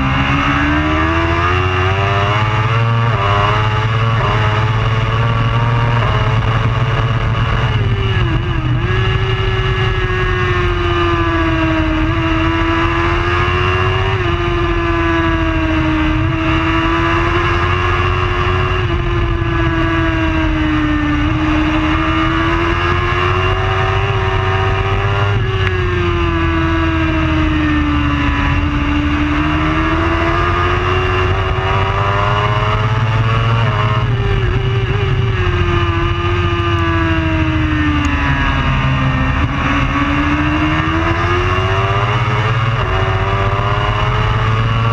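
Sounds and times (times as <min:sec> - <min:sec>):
superbike engine running hard: 0:00.0 - 0:44.9.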